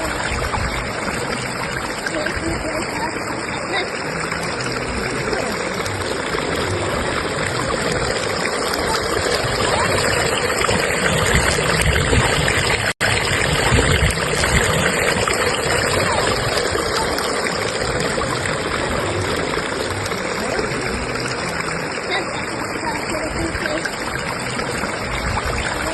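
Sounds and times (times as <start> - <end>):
stream rushing and babbling: 0.0 - 25.9.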